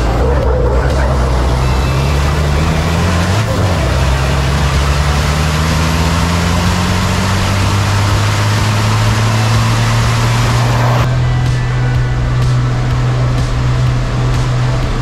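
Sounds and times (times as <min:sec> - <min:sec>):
diesel truck engine drone: 0:00.0 - 0:15.0
road rush: 0:00.0 - 0:15.0.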